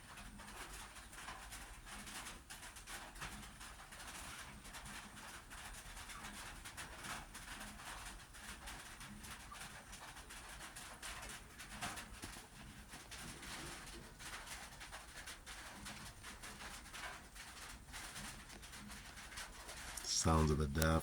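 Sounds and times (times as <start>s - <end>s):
rain falling on a roof: 0.0s - 21.0s.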